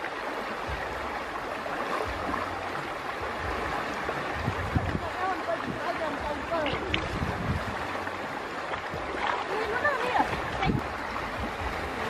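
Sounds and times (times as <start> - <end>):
shallow water sloshing and splashing: 0.0 - 12.0.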